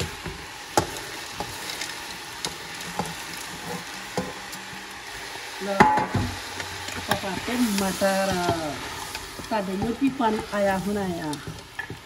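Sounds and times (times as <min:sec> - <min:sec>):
vegetables sizzling in a cooker: 0:00.0 - 0:12.0.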